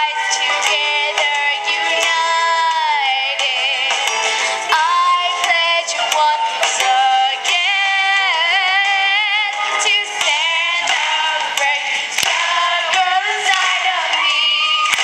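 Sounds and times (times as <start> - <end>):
backing music: 0.0 - 15.0
girls singing pop song: 0.0 - 15.0.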